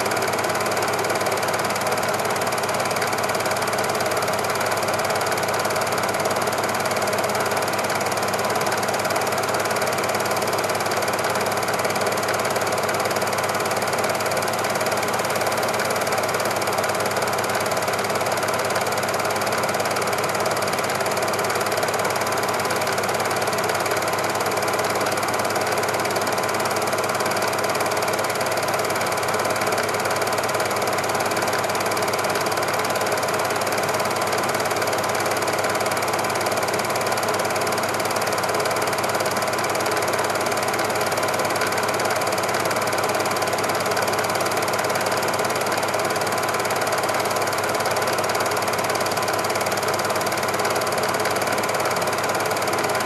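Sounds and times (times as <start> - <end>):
film projector running: 0.0 - 53.0.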